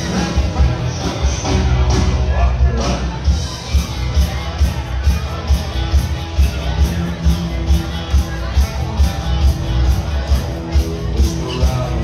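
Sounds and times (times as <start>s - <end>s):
live country band playing: 0.0s - 12.0s.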